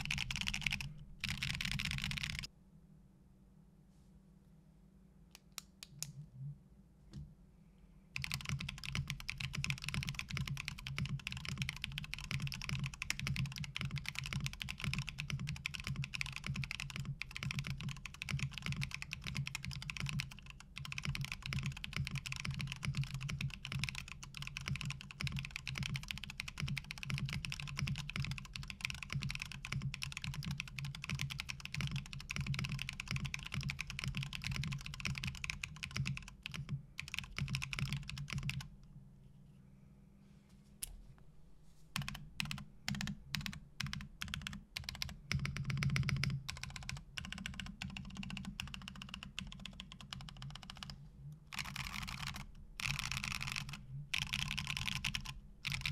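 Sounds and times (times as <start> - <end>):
fast mechanical keyboard typing: 0.0 - 2.5, 8.2 - 38.7, 42.0 - 55.9.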